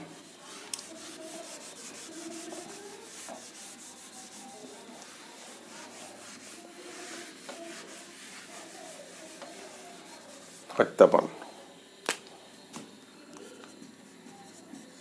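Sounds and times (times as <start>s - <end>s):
whiteboard being wiped: 0.0s - 11.0s, 13.7s - 15.0s.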